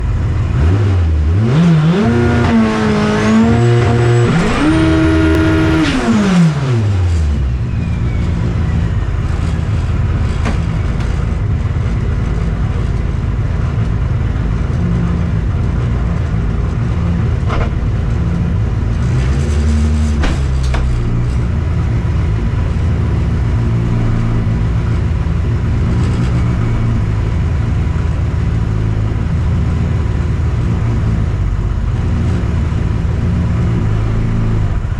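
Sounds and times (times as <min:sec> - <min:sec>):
car engine over-revving: 0:00.0 - 0:34.9
road rumble: 0:00.0 - 0:34.9.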